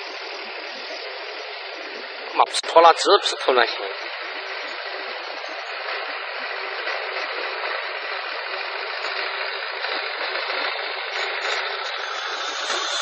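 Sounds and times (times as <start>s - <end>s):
model motorcycle engine buzzing: 0.0s - 13.0s.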